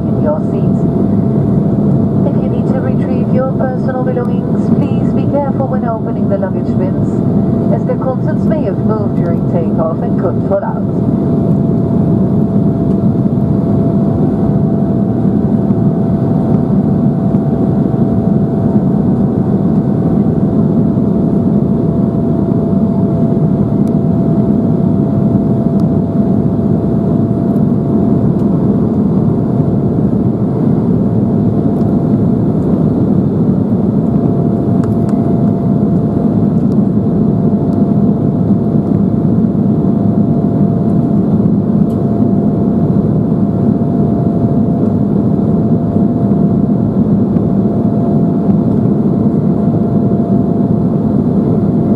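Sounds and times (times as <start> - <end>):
jet engine rush: 0.0 - 51.9
thin steady whine: 0.0 - 51.9.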